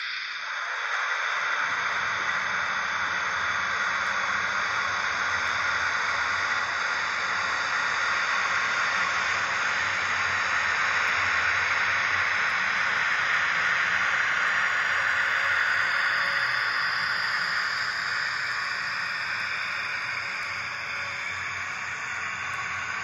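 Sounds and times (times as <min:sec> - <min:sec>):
steady loud hiss: 0:00.0 - 0:23.0.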